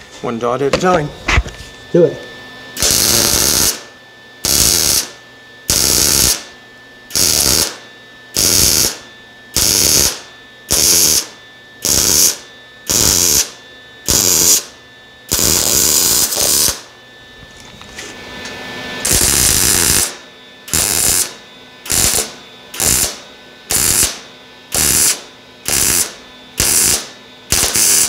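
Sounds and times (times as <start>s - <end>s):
welding arc bursts: 2.8s - 6.5s, 7.1s - 16.9s, 19.0s - 28.0s.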